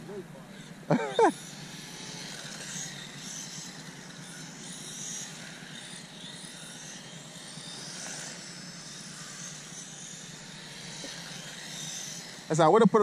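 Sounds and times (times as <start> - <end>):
electric toy car motor whine: 0.0 - 13.0.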